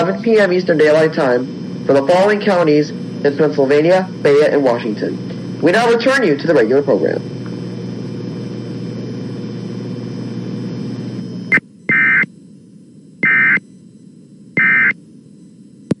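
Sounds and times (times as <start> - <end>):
buzzy digital data tones: 0.0 - 12.3, 13.0 - 15.0
background hiss with hum: 0.0 - 16.0.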